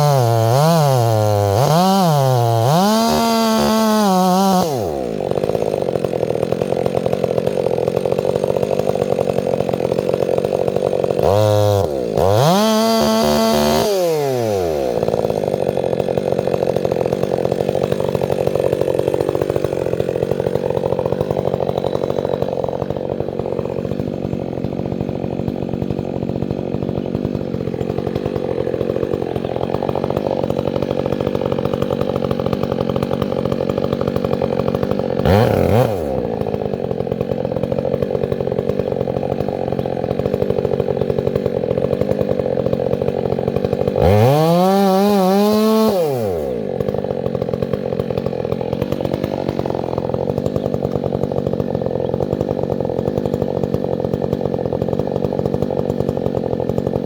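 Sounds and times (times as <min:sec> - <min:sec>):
chainsaw engine idling and revving: 0:00.0 - 0:57.0.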